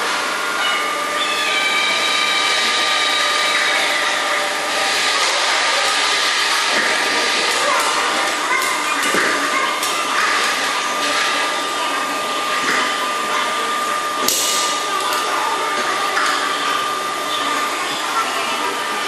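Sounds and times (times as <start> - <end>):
whirring machine hum: 0.0 - 19.0.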